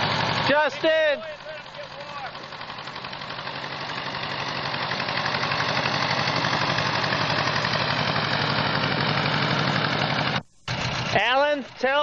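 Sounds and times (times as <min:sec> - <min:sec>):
tractor engine chugging: 0:00.0 - 0:12.0.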